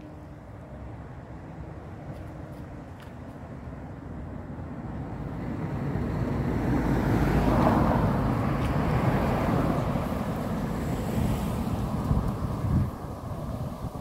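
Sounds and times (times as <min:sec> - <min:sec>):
car passing on tarmac: 0:00.0 - 0:14.0
traffic: 0:00.0 - 0:14.0.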